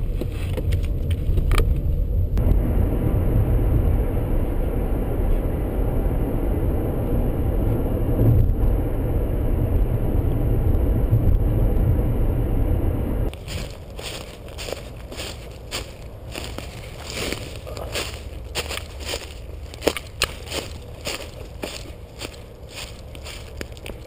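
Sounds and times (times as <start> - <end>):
car road and engine noise: 0.0 - 24.0
quiet outdoor sound: 0.0 - 24.0.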